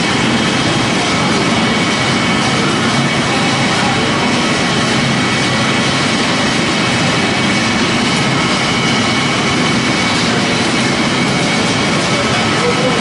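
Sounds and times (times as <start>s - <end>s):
machine running loudly: 0.0s - 13.0s.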